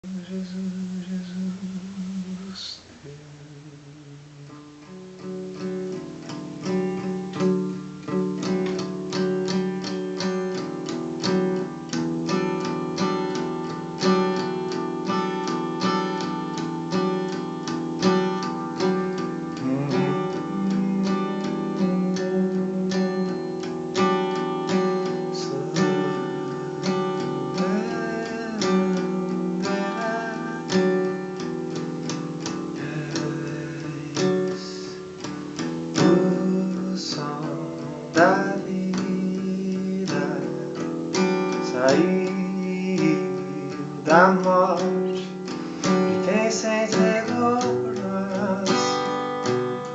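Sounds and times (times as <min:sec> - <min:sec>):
acoustic guitar strumming chords: 0:00.0 - 0:49.9.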